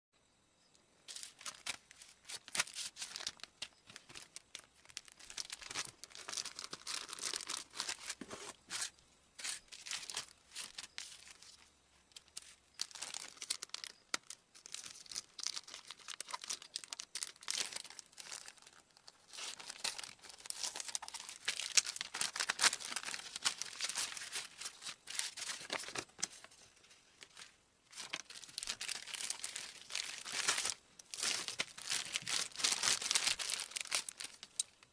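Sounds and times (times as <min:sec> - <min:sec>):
plastic bag crackling and rustling: 0:01.1 - 0:34.9.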